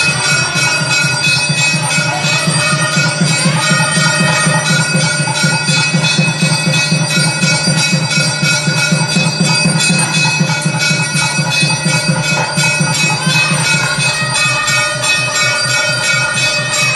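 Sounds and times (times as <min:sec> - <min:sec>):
bells ringing rapidly: 0:00.0 - 0:16.9
fast even drumbeat: 0:00.0 - 0:16.9.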